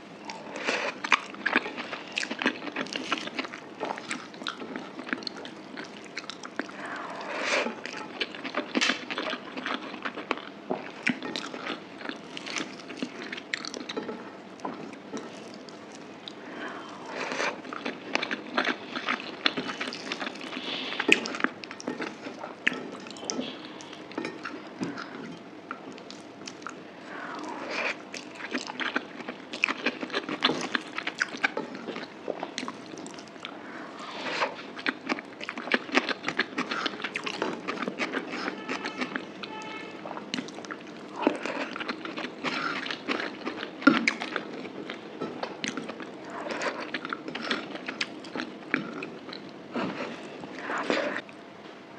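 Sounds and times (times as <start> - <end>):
close chewing and mouth clicks: 0.2 - 33.6, 34.2 - 51.4.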